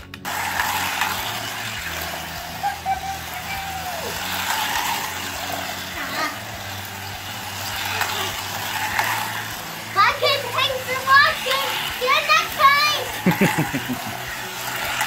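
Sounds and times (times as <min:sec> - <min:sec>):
slot car motors whirring: 0:00.0 - 0:15.0.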